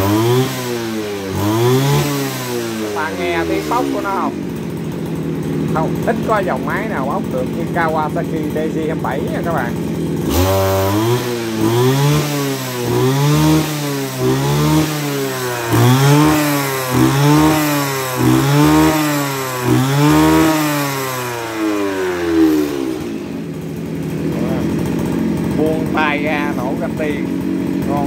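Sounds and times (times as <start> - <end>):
brush-cutter engine revving: 0.0 - 28.0.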